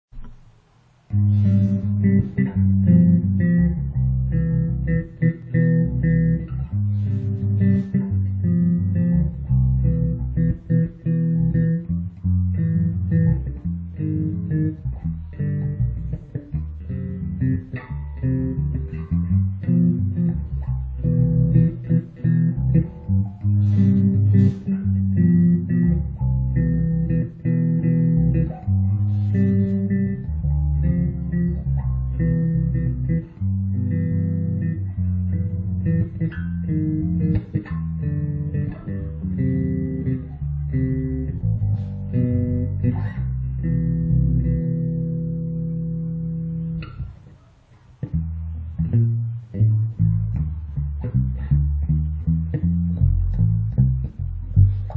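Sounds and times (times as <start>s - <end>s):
electric bass plucked notes: 0.1s - 54.9s.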